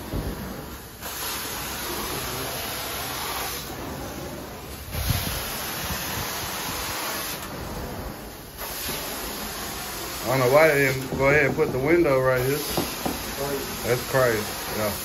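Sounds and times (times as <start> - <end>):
vacuum suction hiss: 0.0 - 15.0.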